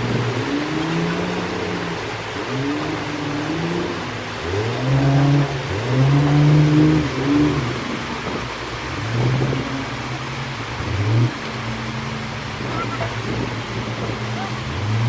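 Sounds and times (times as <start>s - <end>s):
boat engine revving: 0.0s - 15.0s
turbulent water rushing: 0.0s - 15.0s.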